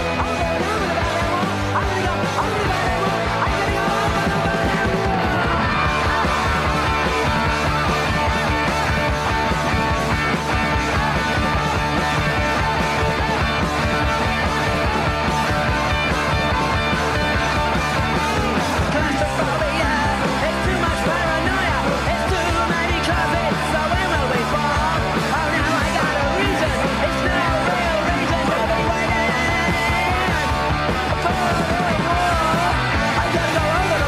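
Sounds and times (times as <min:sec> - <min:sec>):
bass guitar: 0:00.0 - 0:34.0
distorted electric guitars: 0:00.0 - 0:34.0
driving drums: 0:00.0 - 0:34.0.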